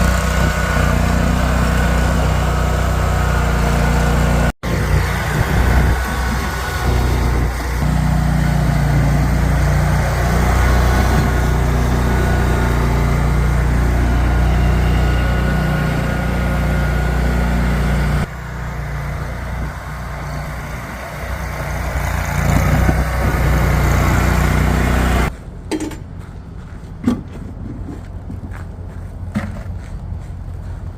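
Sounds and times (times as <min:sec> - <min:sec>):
snow-clearing machine engine running: 0:00.0 - 0:25.4.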